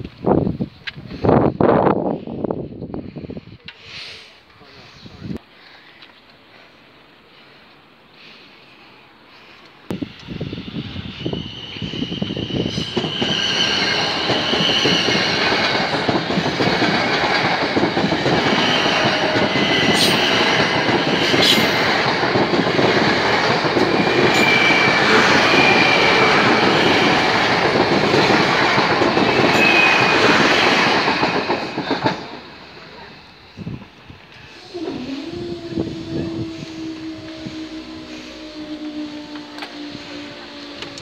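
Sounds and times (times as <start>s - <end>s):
train wheels rushing on rail: 6.7s - 41.0s.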